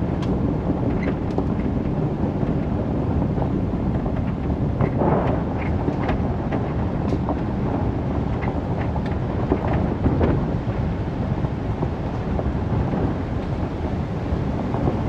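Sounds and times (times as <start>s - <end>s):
vehicle rumbling on gravel road: 0.0s - 15.0s.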